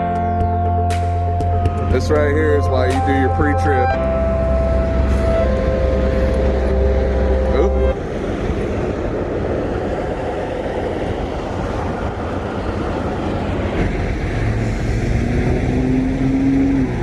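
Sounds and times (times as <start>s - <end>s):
low truck engine drone: 0.0s - 17.0s
road noise: 0.0s - 17.0s.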